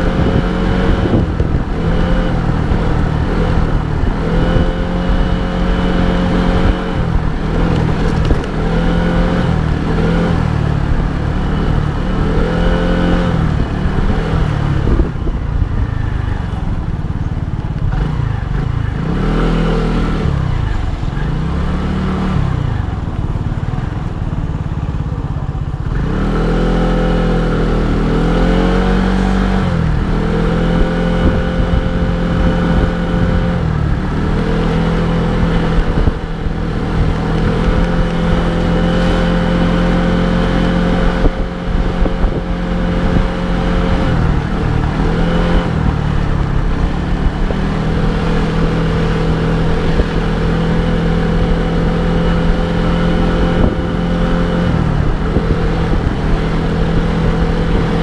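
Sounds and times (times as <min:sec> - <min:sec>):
scooter engine revving: 0:00.0 - 0:58.0
wind and road rumble: 0:00.0 - 0:58.0.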